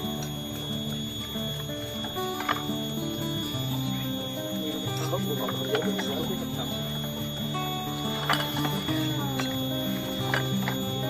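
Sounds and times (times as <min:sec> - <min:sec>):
slow instrumental melody: 0:00.0 - 0:11.0.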